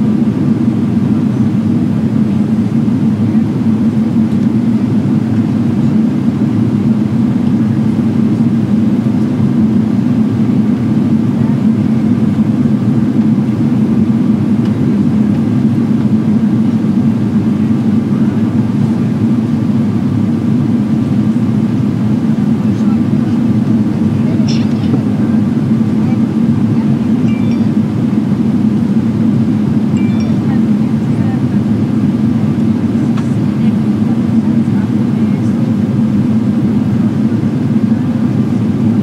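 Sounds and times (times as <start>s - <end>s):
airliner cabin rumble: 0.0s - 39.0s
faint high hum: 0.0s - 39.0s.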